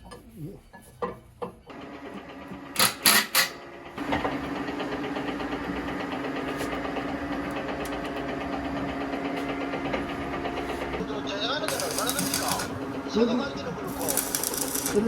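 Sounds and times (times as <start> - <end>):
electric motor humming and rattling: 1.7 - 11.0, 11.6 - 15.0.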